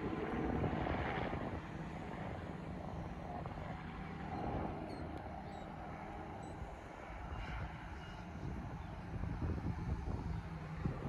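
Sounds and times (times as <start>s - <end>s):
helicopter drone: 0.0s - 11.0s.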